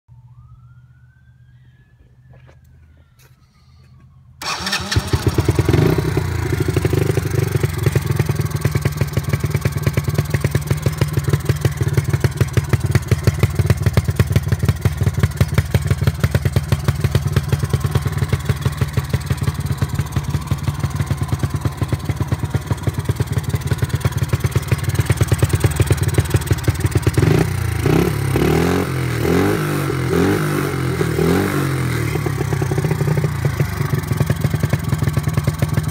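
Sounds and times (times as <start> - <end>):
atv engine idling and revving: 4.4 - 35.9.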